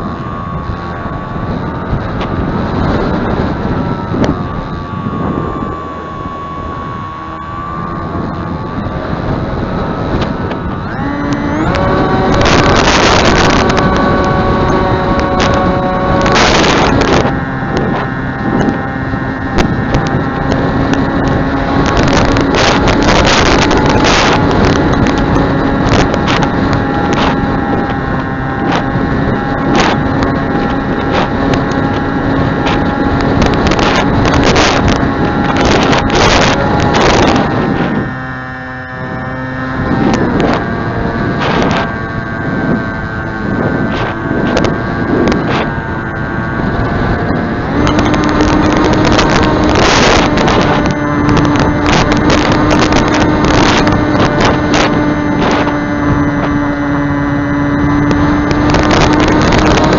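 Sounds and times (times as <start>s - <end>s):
model airplane motor whining: 0.0s - 59.9s
wind buffeting microphone: 0.0s - 59.9s.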